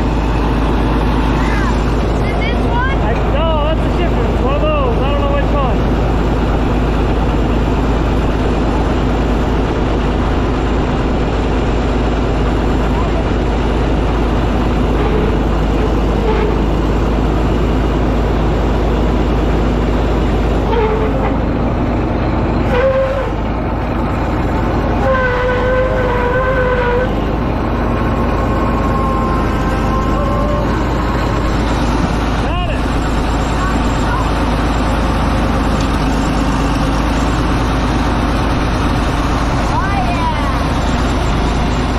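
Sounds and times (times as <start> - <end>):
bulldozer running: 0.0 - 41.9.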